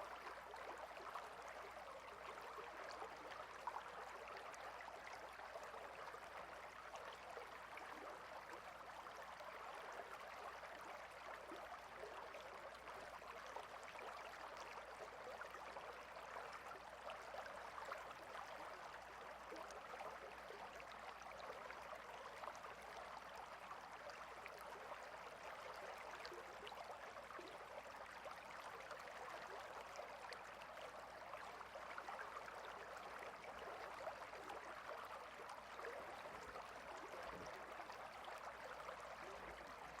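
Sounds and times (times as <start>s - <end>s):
small stream flowing: 0.0s - 40.0s.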